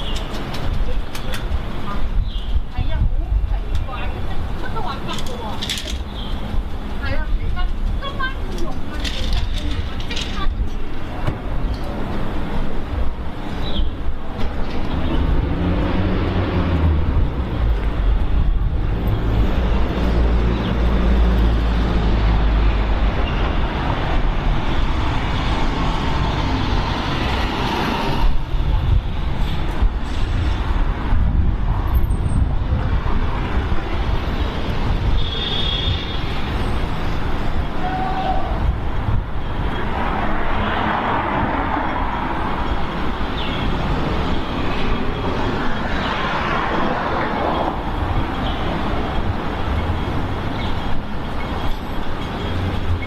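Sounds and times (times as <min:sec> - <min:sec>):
passing road traffic: 0:00.0 - 0:53.0.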